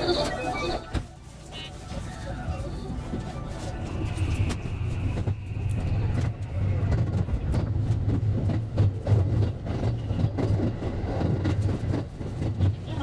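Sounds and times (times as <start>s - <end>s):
train running gear hum: 0.0s - 13.0s.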